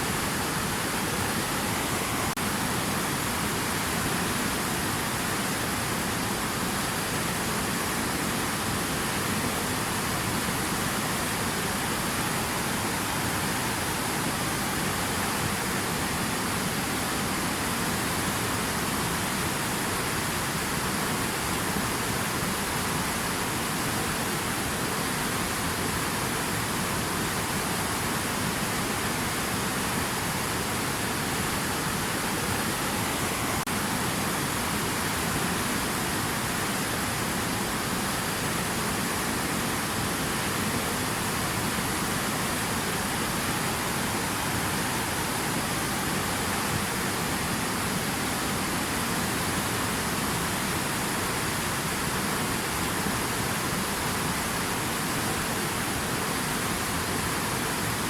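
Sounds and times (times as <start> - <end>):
rushing water hiss: 0.0 - 58.0.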